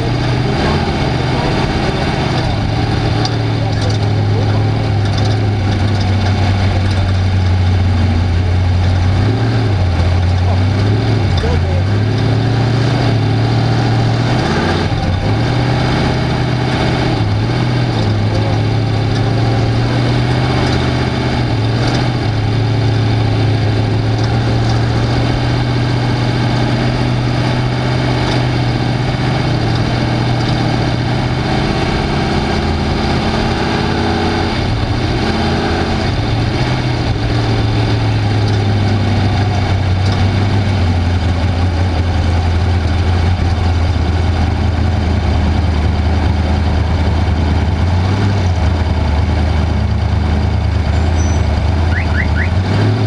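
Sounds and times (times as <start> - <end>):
race car engine running loudly: 0.0 - 53.0.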